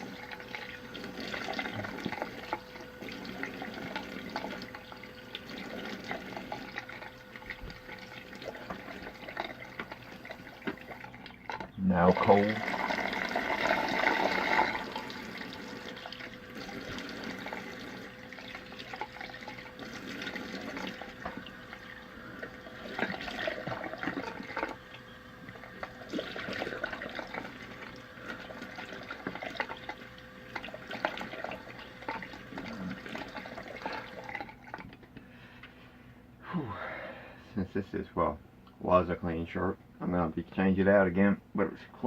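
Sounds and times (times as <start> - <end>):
tap running: 0.0 - 35.8.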